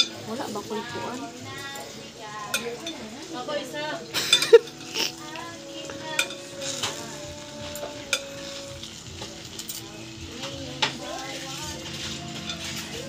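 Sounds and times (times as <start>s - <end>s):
noodles frying sizzle: 0.0s - 13.0s.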